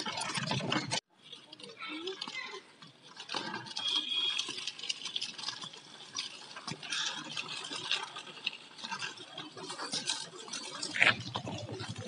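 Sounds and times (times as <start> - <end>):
bicycle rattling on pavement: 0.0 - 12.0.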